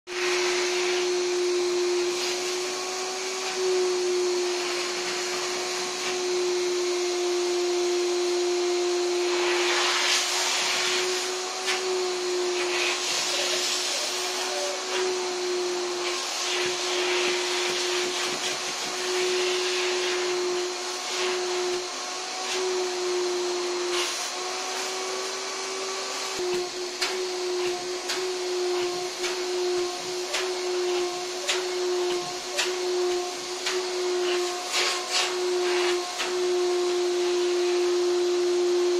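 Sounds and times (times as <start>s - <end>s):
vacuum cleaner motor whine: 0.1s - 38.9s
vacuum nozzle suction hiss: 0.1s - 38.9s.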